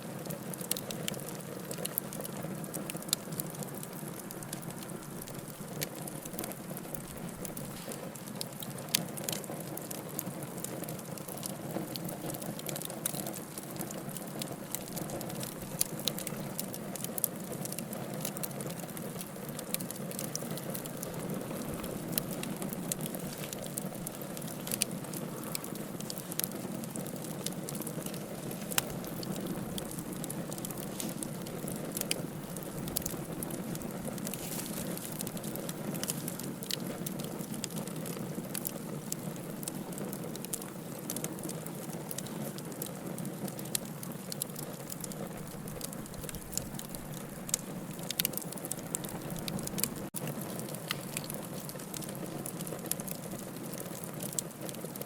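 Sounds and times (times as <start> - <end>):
fire hissing and crackling: 0.0 - 55.0.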